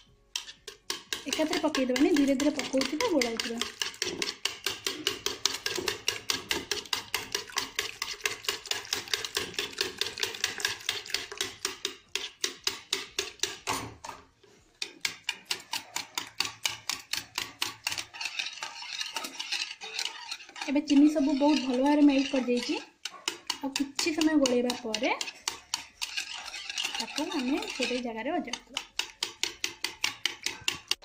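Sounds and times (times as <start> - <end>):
whisk beating in plastic bowl: 0.4 - 13.9, 14.8 - 31.0.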